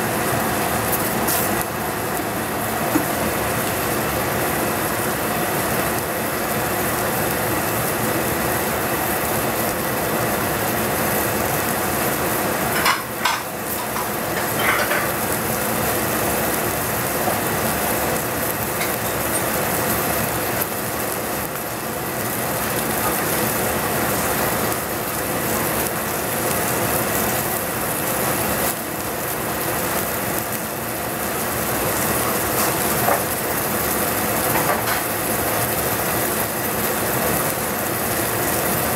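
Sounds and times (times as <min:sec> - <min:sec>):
vegetables sizzling in a saucepan: 0:00.0 - 0:38.9.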